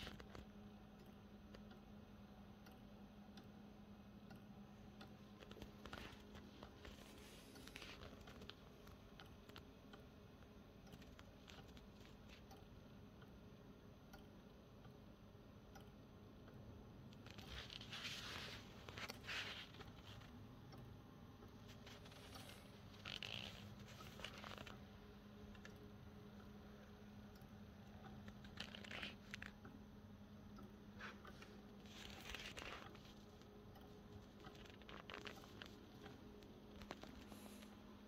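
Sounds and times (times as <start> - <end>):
steady low hum: 0.0 - 38.0
clock ticking: 0.1 - 17.4, 18.8 - 28.6, 29.4 - 34.6.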